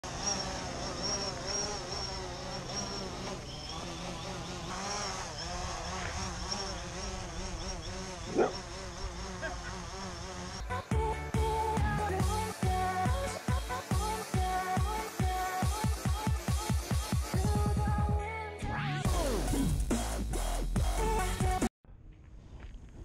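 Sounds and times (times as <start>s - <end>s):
drone propellers buzzing: 0.0s - 17.9s, 19.1s - 21.7s.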